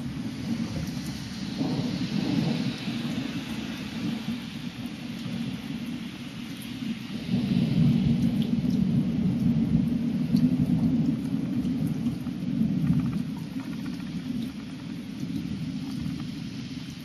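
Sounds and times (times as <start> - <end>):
rain hissing: 0.0 - 17.0
raindrop ticks: 0.0 - 17.0
thunder rumbling: 0.0 - 17.0.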